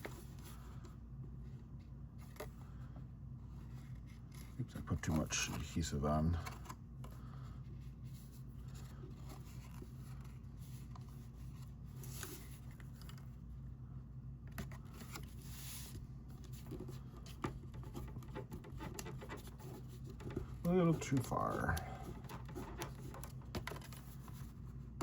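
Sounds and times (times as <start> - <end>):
low steady hum: 0.0 - 25.0
paper rustling and scraping: 3.5 - 13.3, 14.5 - 25.0.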